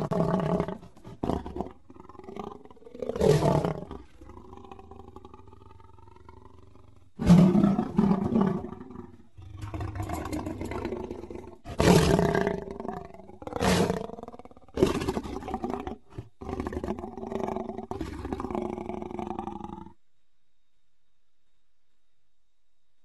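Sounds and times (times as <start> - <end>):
lion roaring: 0.0 - 20.0.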